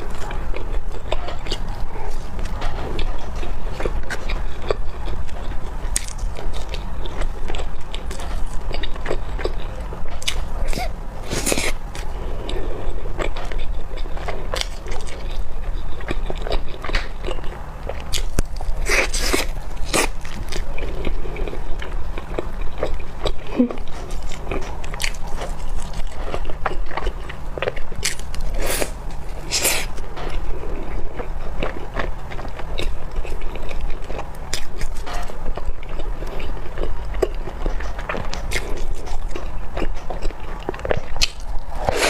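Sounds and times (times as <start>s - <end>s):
person chewing bread: 0.0s - 42.0s.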